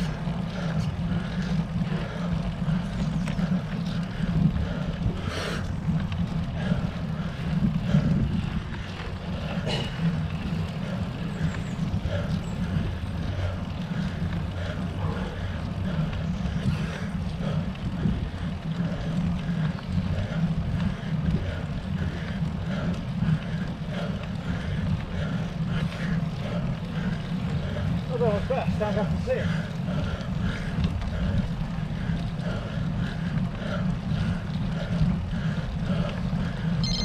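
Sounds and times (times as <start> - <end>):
bicycle tyre road noise: 0.0 - 37.0.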